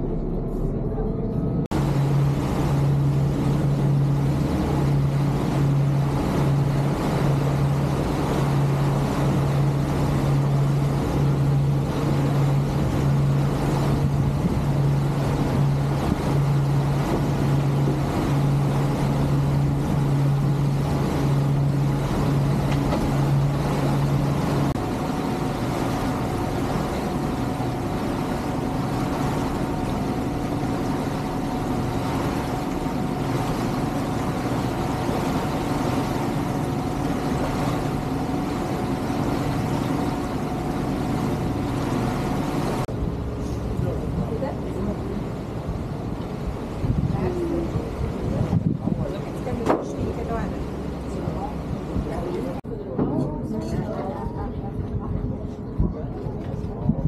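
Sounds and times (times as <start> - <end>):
higher steady hum: 0.0 - 57.0
ship engine droning: 0.0 - 57.0
water washing along hull: 0.0 - 57.0.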